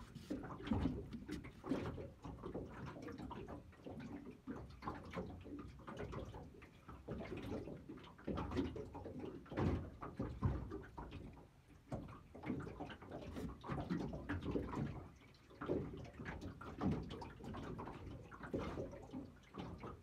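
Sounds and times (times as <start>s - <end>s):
knocks and splashes: 0.0s - 20.0s
waves lapping against boat hull: 0.0s - 20.0s.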